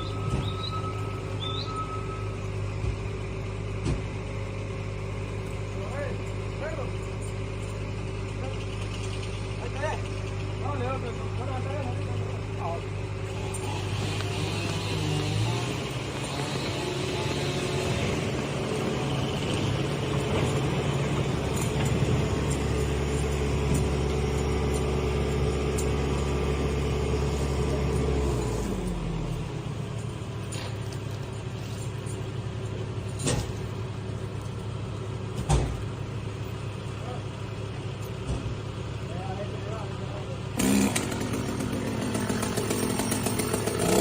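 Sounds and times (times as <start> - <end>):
large engine running: 0.0 - 44.0.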